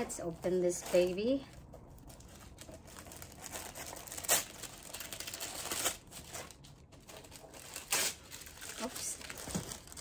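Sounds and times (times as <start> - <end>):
paper wrapping crinkling: 0.7 - 10.0.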